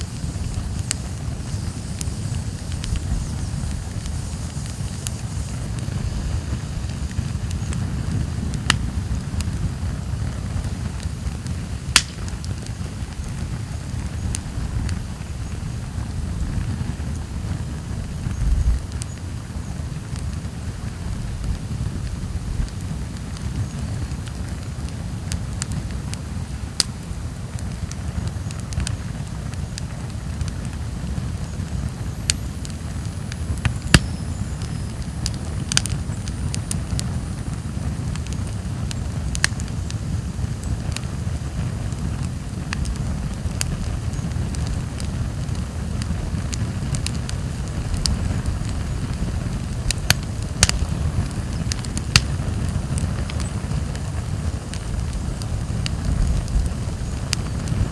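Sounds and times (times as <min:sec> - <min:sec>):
logs crackling and popping: 0:00.0 - 0:57.9
wood fire burning: 0:00.0 - 0:57.9.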